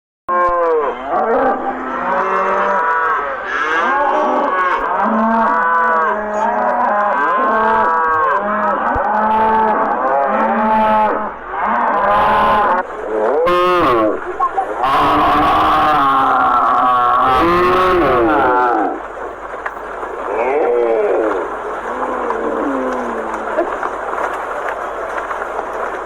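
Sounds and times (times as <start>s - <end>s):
cattle mooing: 0.3s - 19.0s, 20.3s - 23.8s.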